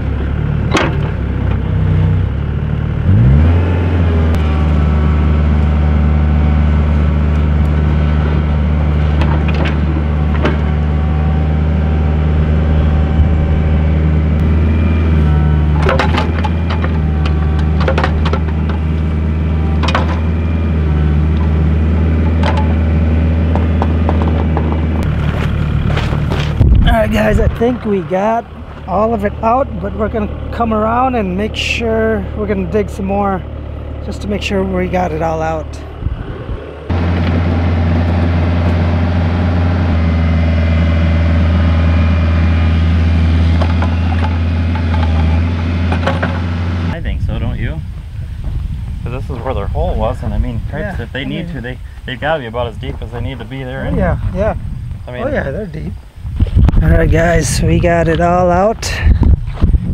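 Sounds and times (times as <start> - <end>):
excavator diesel engine running: 0.0 - 48.8.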